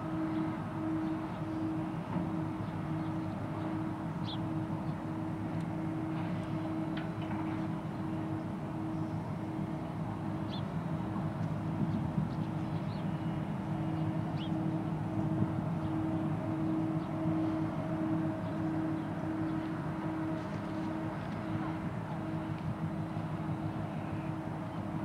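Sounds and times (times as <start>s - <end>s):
ship diesel engines droning: 0.0s - 25.0s.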